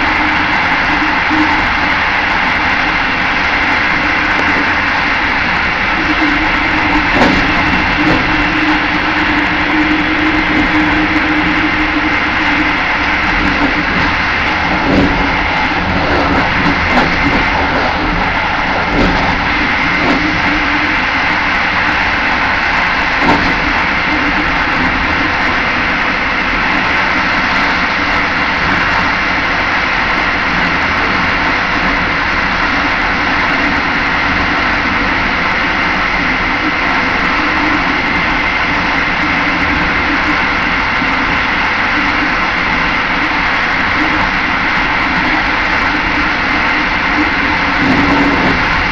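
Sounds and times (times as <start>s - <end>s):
high hum: 0.0s - 48.9s
train rolling rumble: 0.0s - 48.9s.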